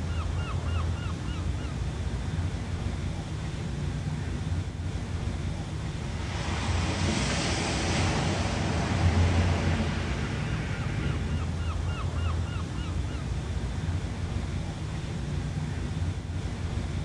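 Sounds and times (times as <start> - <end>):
ocean waves washing ashore: 0.0 - 17.0
steady low rumble: 0.0 - 17.0.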